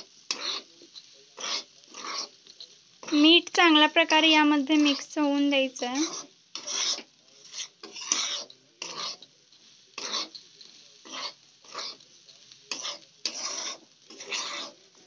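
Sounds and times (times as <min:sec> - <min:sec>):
metal spatula scraping a pan: 0:00.0 - 0:03.4, 0:04.0 - 0:15.0.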